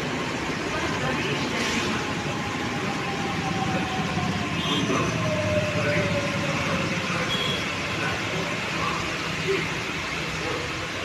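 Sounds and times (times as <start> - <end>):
metro train whine: 0.0 - 11.0.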